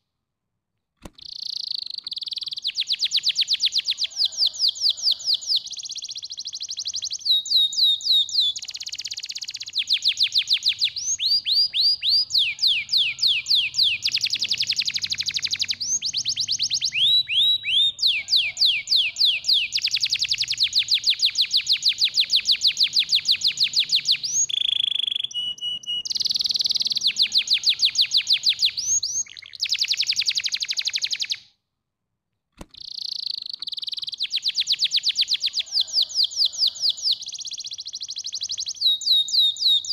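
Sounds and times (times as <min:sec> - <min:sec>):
canary singing rapid trills: 0:01.2 - 0:31.4, 0:32.7 - 0:39.9.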